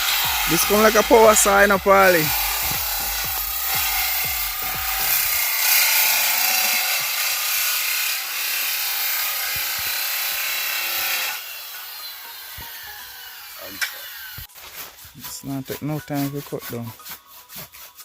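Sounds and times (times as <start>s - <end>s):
power saw cutting timber: 0.0s - 14.5s.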